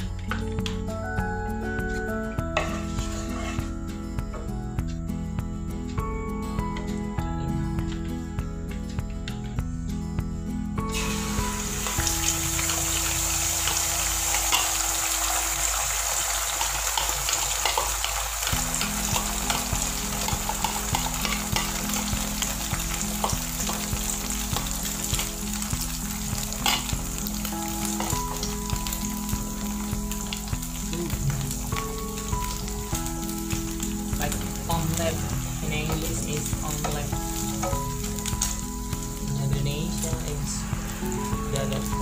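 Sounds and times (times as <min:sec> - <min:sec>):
egg sizzling in a frying pan: 0:00.0 - 0:04.3, 0:10.8 - 0:42.0.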